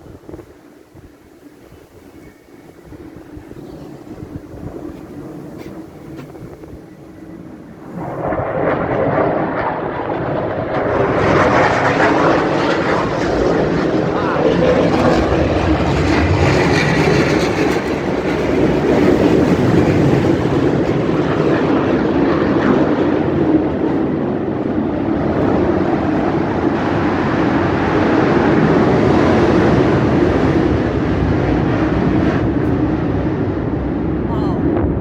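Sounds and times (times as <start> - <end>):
aircraft engine drone: 0.0 - 35.0.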